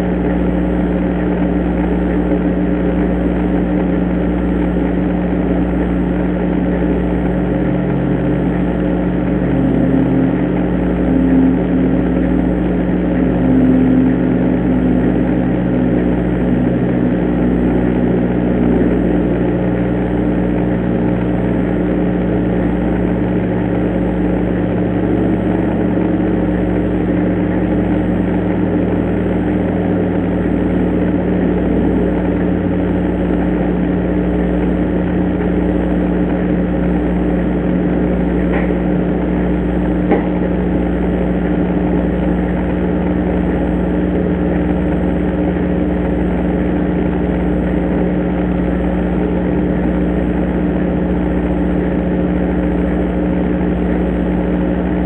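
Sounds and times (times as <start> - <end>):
microphone hum and hiss: 1.3 - 55.0.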